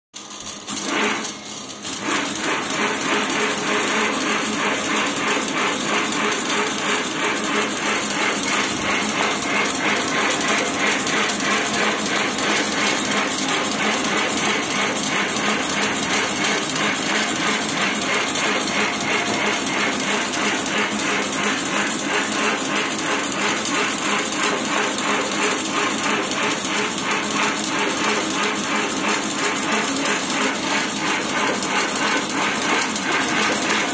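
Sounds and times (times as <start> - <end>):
machine clattering: 0.2 - 33.9.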